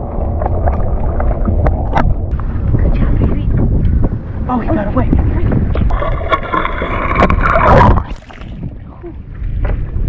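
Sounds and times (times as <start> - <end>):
low wind rumble on microphone: 0.0 - 10.0.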